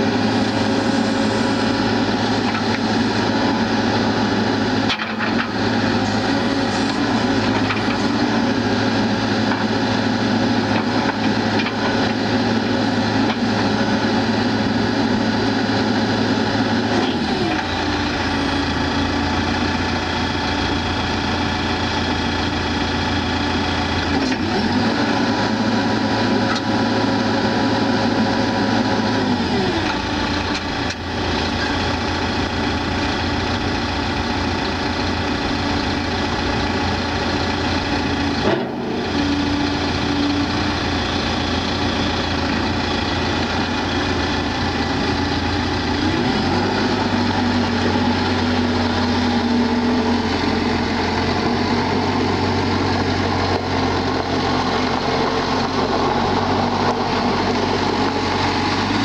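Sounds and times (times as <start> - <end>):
backhoe diesel engine running: 0.0 - 59.0.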